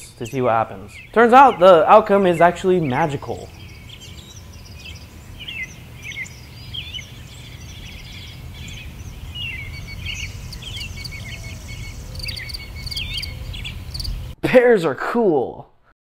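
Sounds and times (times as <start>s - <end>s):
songbirds chirping and warbling: 0.0s - 14.4s.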